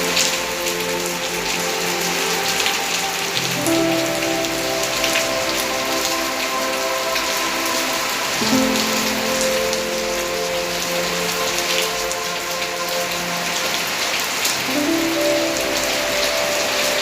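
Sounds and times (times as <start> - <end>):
rain falling: 0.0 - 17.0
soft sustained musical notes: 0.0 - 17.0.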